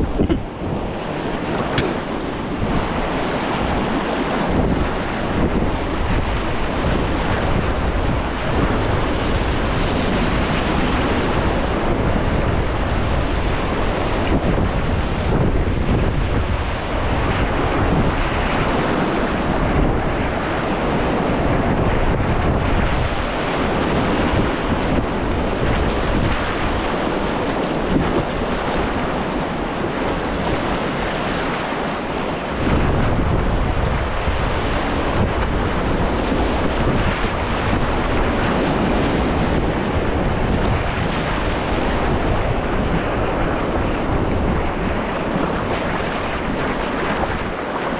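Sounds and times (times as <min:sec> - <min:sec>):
whitewater rushing: 0:00.0 - 0:14.6, 0:21.9 - 0:47.9
wind buffeting microphone: 0:00.0 - 0:47.9.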